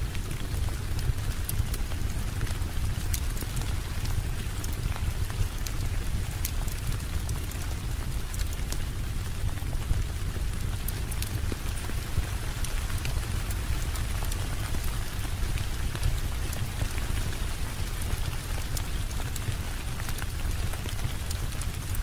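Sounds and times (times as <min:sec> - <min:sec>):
steady rainfall: 0:00.0 - 0:22.0
wood fire crackling: 0:00.0 - 0:22.0.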